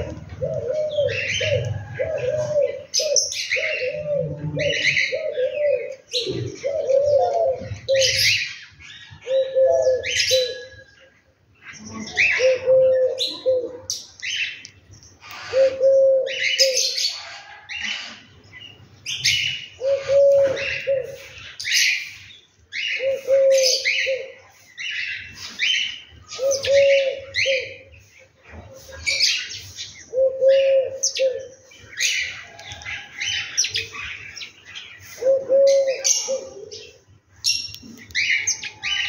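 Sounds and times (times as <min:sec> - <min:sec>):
dove cooing: 0:00.0 - 0:11.0, 0:11.8 - 0:14.0, 0:15.4 - 0:18.3, 0:19.2 - 0:34.4, 0:35.1 - 0:37.1
sparrows chirping: 0:00.0 - 0:39.0.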